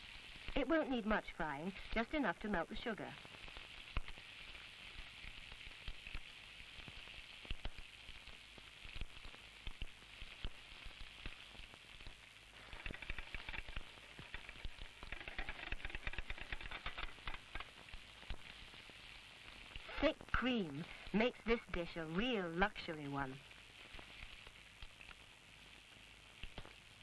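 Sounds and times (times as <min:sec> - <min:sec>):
bananas sizzling in butter: 0:00.0 - 0:27.0.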